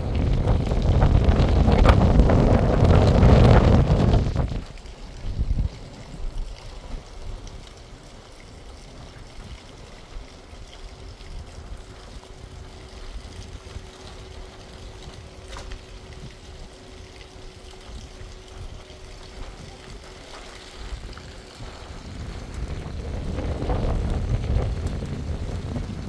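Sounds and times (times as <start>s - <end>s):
faint steady hum: 0.0s - 26.0s
wind rumbling on microphone: 0.0s - 26.0s.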